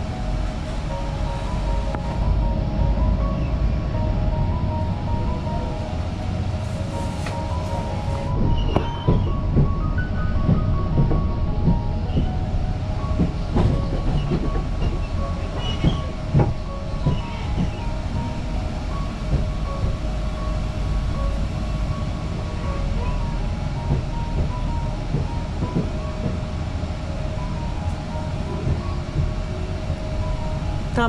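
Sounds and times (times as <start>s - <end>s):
train rumble inside carriage: 0.0s - 31.0s
wheels clacking over rails: 0.0s - 31.0s.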